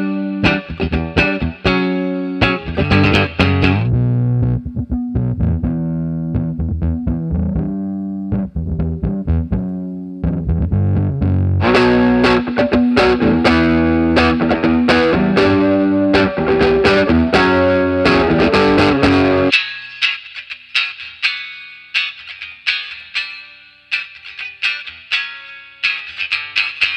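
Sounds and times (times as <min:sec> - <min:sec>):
distorted electric guitar: 0:00.0 - 0:26.9.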